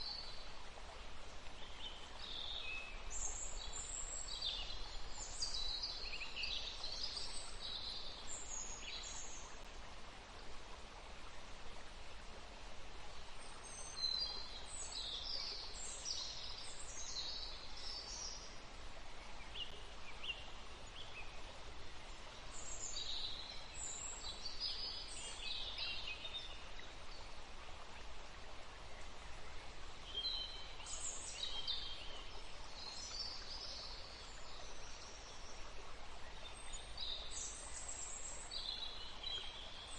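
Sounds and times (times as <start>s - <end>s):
river flowing: 0.0s - 39.9s
songbirds chirping: 0.0s - 39.9s.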